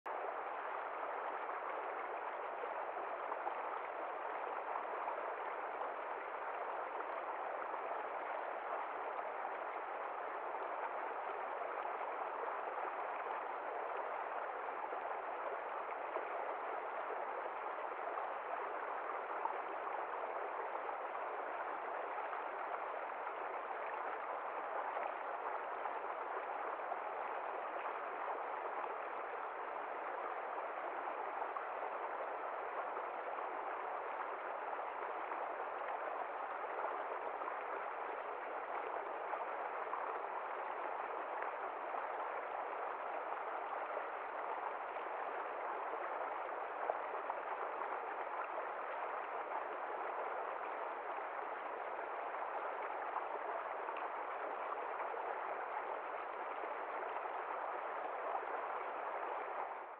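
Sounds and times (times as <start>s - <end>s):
stream flowing over rocks: 0.1s - 59.9s.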